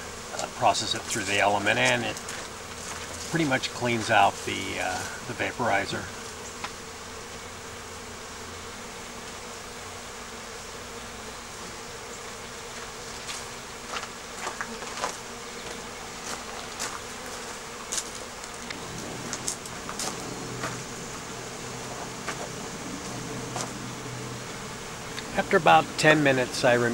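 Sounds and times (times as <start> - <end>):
honeybees buzzing: 0.0 - 26.9
single bees flying past: 0.0 - 26.9.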